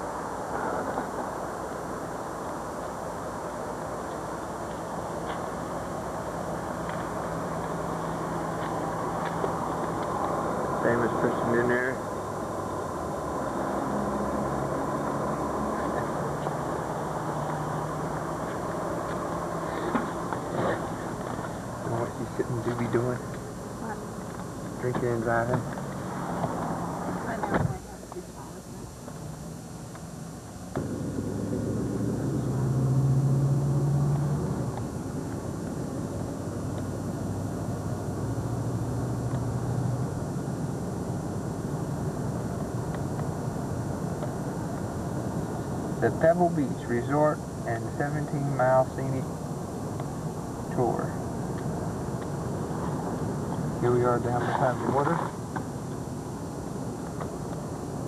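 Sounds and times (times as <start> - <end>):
car interior road noise: 0.0 - 58.0.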